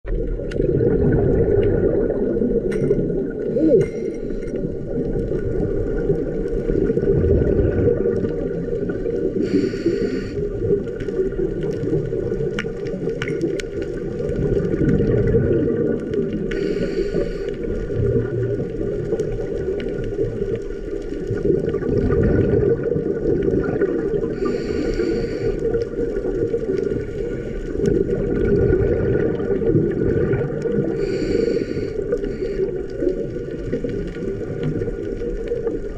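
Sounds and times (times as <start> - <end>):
low underwater rumble: 0.0 - 35.9
diver's exhaled bubbles hissing: 0.1 - 35.9.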